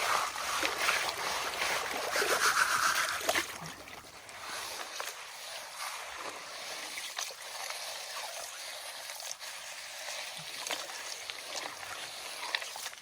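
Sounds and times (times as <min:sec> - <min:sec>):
creek water: 0:00.0 - 0:13.0.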